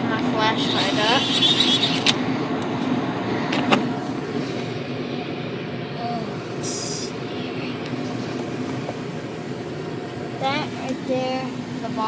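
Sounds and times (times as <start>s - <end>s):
gas furnace blower rush: 0.0s - 12.0s.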